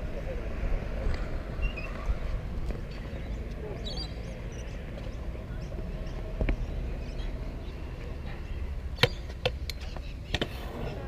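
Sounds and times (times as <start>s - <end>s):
low rumbling noise: 0.0s - 9.0s.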